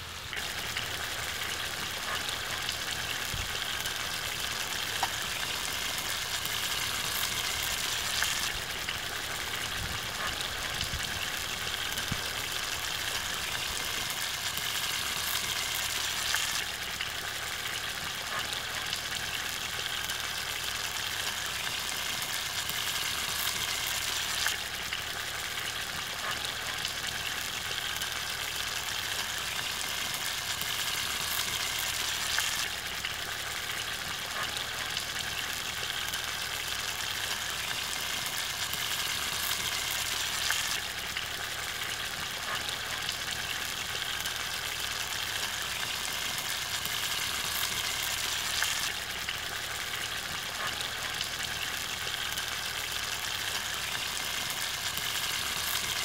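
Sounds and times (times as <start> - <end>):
gravy simmering and sizzling: 0.0 - 56.0.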